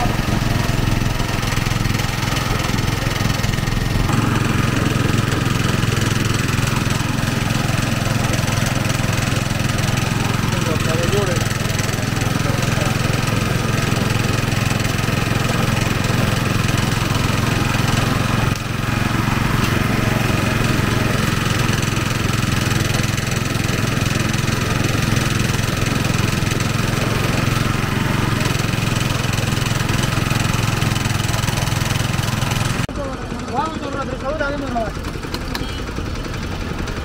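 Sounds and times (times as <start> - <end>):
sugarcane juice press running: 0.0 - 37.0.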